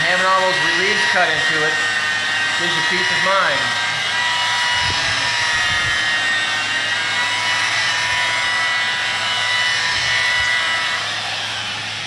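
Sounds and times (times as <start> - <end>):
buffing pad rushing hiss: 0.0 - 12.0
rotary polisher whine: 0.0 - 12.0.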